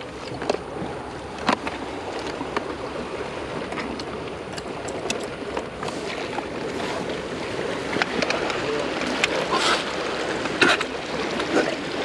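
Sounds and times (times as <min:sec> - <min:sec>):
seawater washing among rocks: 0:00.0 - 0:12.0.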